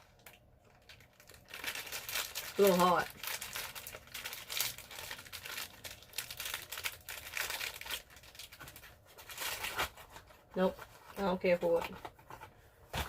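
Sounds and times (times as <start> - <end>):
plastic wrapper crinkling: 0.0 - 12.2.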